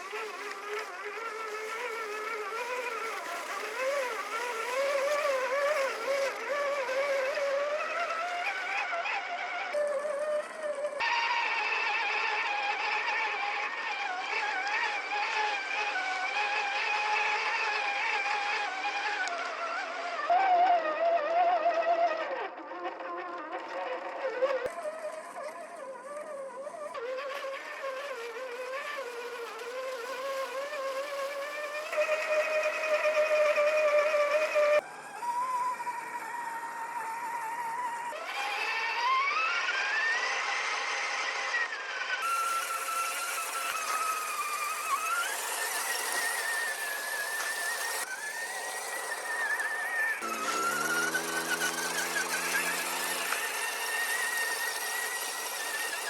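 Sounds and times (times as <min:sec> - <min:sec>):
rc truck motor and gear whine: 0:00.0 - 0:56.0.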